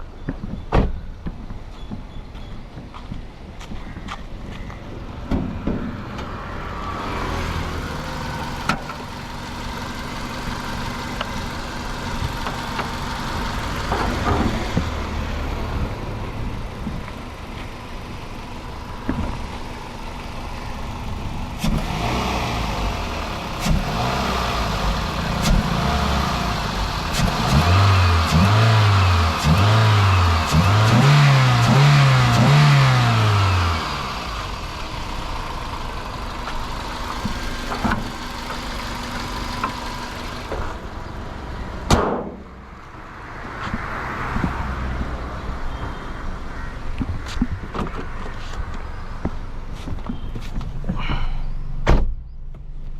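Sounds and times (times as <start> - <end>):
car engine idling and revving: 0.0 - 52.9.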